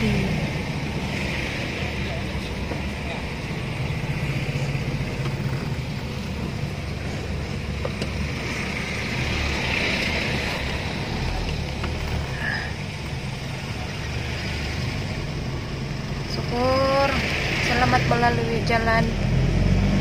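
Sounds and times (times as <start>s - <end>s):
low engine hum: 0.0s - 20.0s
tyres hissing on wet road: 0.0s - 20.0s.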